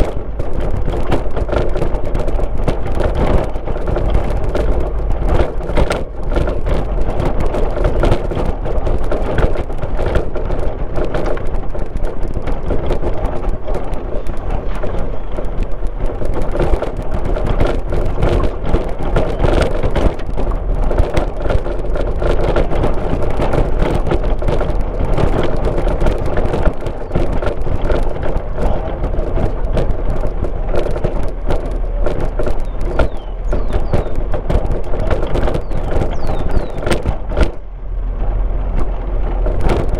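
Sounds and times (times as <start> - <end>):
clicks and rattles from rough road: 0.0 - 39.9
tyres on road: 0.0 - 39.9.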